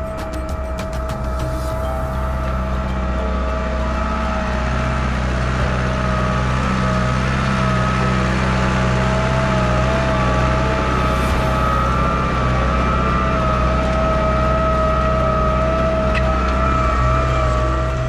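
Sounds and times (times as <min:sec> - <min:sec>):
tractor diesel engine running: 0:00.0 - 0:18.0
wavering whine: 0:00.0 - 0:18.0.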